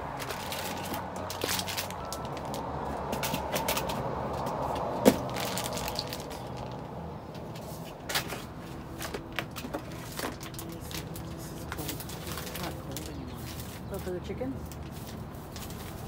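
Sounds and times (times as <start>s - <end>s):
cardboard and plastic crinkling: 0.0s - 16.0s.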